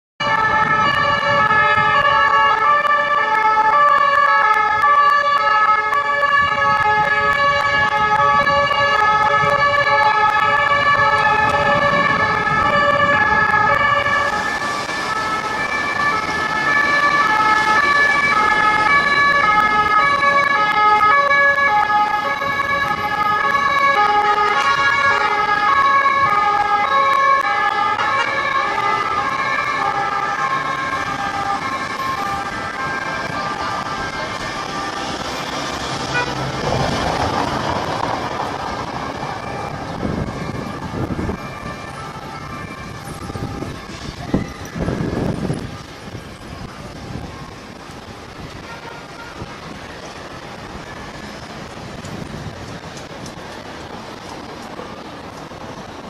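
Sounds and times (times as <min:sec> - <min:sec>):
street traffic: 0:00.2 - 0:56.0
two-tone police sirens: 0:00.2 - 0:56.0.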